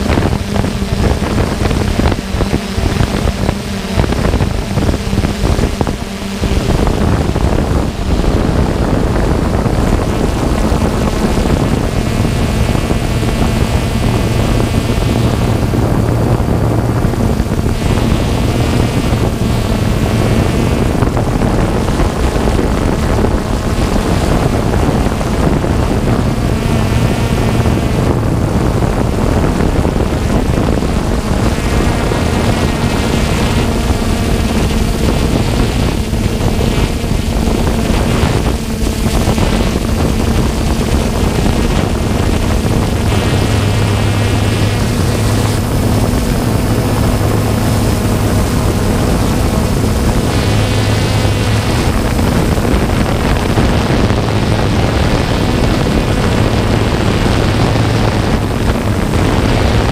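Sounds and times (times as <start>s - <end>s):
drone propellers buzzing: 0.0s - 59.9s.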